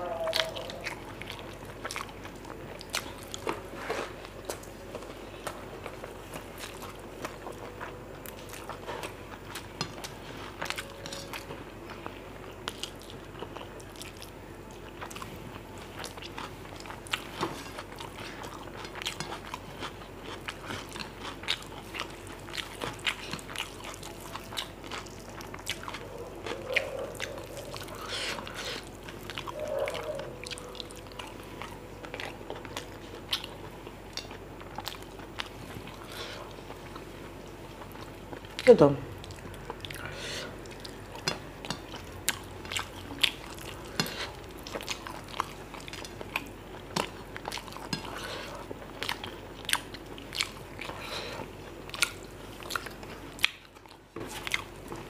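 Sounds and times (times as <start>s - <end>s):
people chewing and lip smacking: 0.0s - 55.0s.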